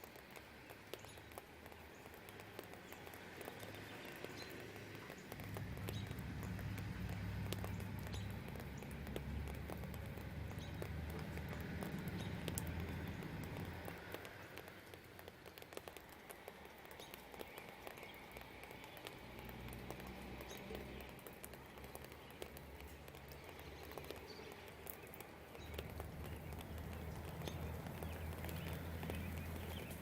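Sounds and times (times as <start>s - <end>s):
distant traffic rumble: 0.0s - 30.0s
rain falling: 0.0s - 30.0s
raindrops pattering and ticking: 0.0s - 30.0s.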